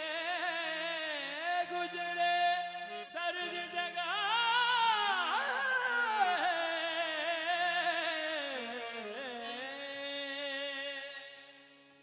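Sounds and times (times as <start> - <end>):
harmonium chords: 0.0 - 12.0.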